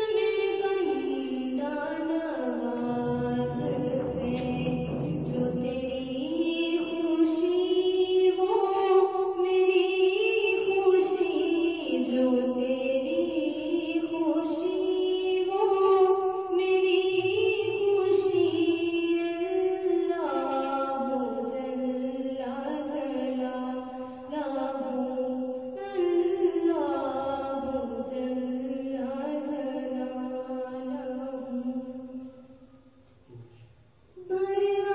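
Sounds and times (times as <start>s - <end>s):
girl singing unaccompanied: 0.0s - 32.6s, 34.2s - 34.9s.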